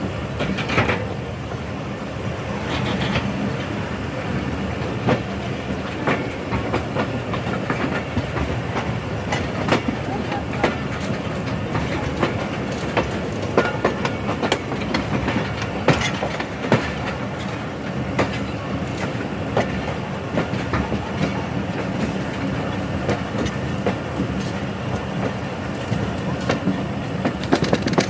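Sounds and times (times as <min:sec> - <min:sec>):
train rumbling: 0:00.0 - 0:28.0
train wheels clattering over rail joints: 0:00.0 - 0:28.0.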